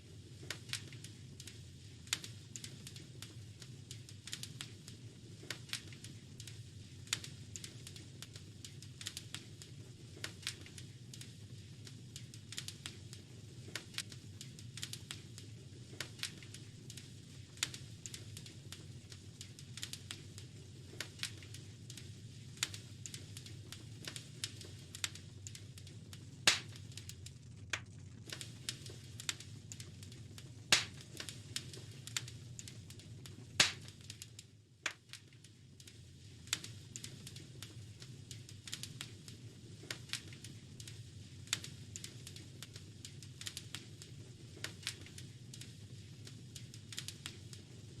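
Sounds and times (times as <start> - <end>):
low rumble of flames: 0.0 - 48.0
wood fire crackling and popping: 0.0 - 48.0.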